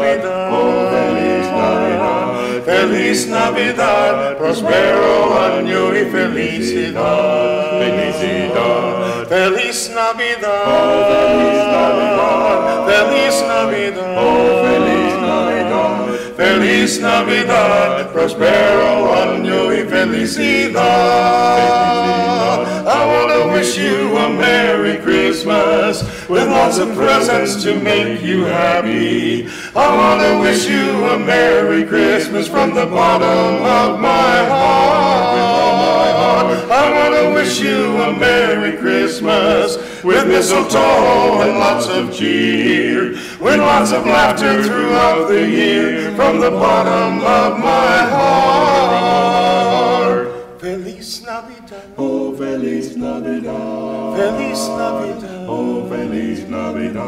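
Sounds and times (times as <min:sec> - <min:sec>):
male vocal quartet singing: 0:00.0 - 0:57.0.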